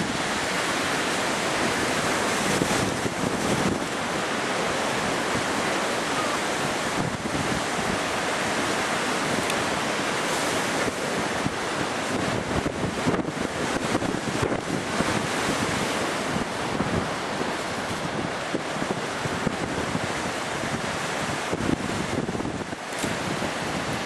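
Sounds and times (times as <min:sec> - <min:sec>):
waves breaking: 0:00.0 - 0:24.0
wind on microphone: 0:00.0 - 0:24.0.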